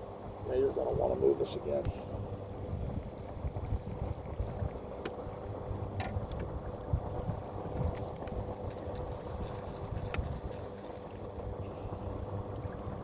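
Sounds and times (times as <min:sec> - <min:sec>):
boat motor humming: 0:00.0 - 0:13.0
wind and water rumble: 0:00.0 - 0:13.0.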